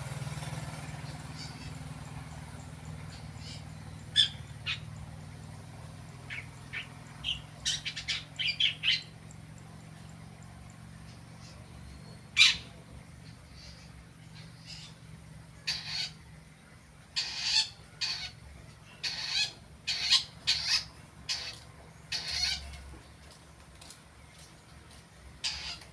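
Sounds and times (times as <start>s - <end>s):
low steady hum: 0.0s - 25.9s
bird harsh calls: 1.0s - 9.6s, 10.9s - 23.0s, 25.4s - 25.9s.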